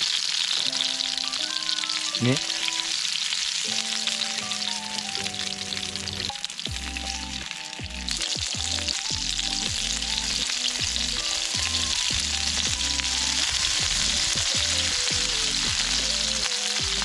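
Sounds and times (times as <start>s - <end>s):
food deep-frying in hot oil: 0.0s - 17.0s.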